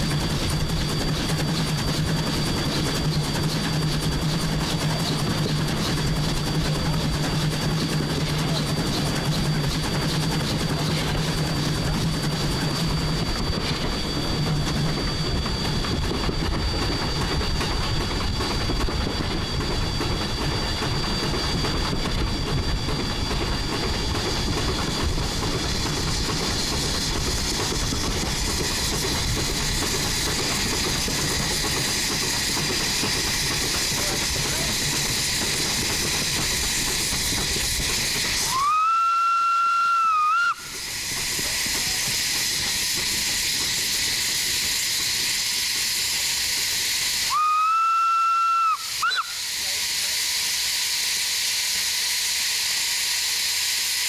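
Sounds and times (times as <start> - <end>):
steam hissing: 0.0 - 54.0
steam locomotive running: 0.0 - 54.0.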